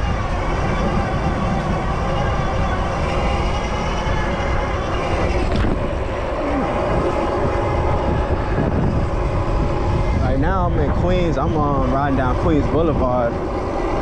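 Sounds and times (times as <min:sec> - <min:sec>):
steady tonal hum: 0:00.0 - 0:14.0
street traffic rumble: 0:00.0 - 0:14.0.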